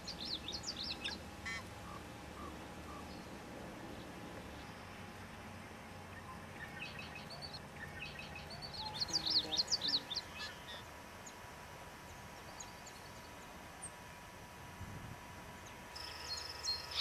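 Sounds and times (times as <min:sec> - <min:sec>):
songbird singing: 0:00.0 - 0:14.1, 0:15.6 - 0:17.0.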